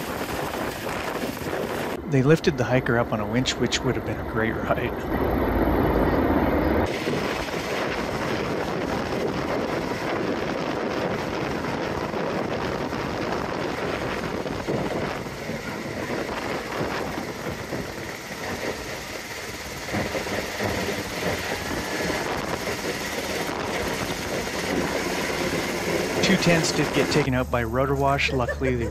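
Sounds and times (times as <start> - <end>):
helicopter hovering: 0.0 - 28.9.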